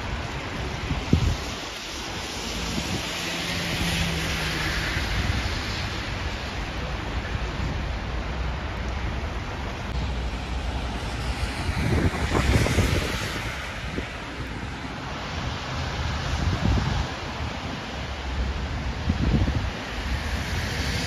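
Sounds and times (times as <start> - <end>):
car tyres hissing through slush: 0.0 - 8.5, 9.5 - 21.0
wind rumbling on microphone: 0.0 - 21.0.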